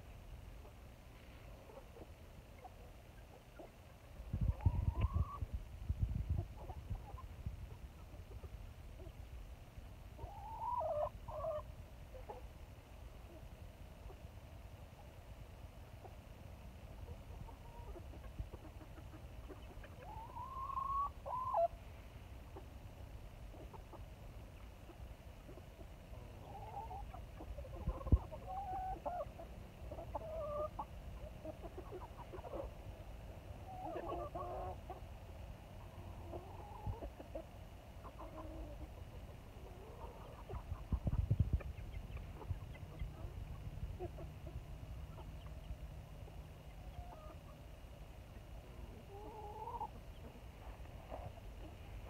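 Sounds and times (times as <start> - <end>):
hens clucking: 0.6 - 9.3, 10.2 - 12.6, 15.9 - 21.9, 23.4 - 52.0.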